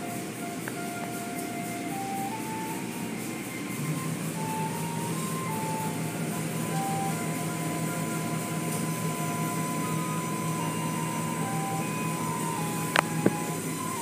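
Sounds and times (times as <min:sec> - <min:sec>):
constant low hum: 0:00.0 - 0:14.0
water spray and wash machinery: 0:00.0 - 0:14.0.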